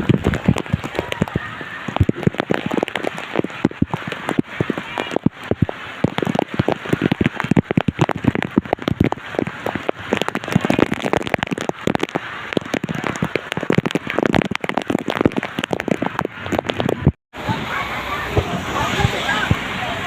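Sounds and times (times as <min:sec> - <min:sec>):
heavy rain on hard surface: 0:00.0 - 0:20.0.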